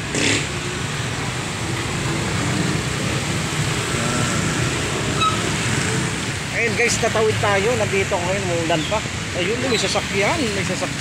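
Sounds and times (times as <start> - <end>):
motorcycle tricycles passing: 0.0 - 11.0
steady tyre hiss on wet road: 0.0 - 11.0.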